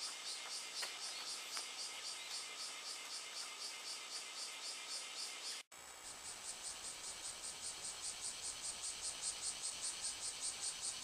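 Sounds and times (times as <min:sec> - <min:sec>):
cicadas pulsing chorus: 0:00.0 - 0:11.0.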